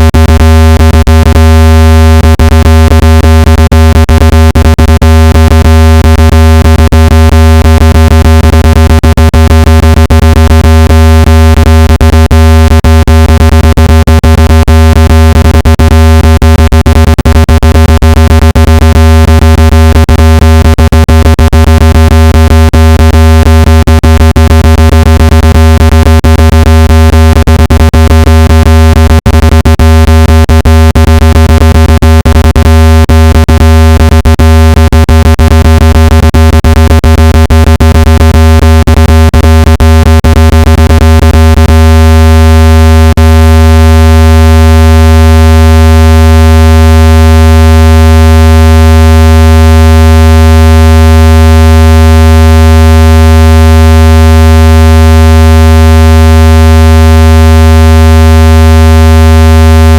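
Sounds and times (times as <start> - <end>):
deep buzzing tone: 0.0 - 59.9.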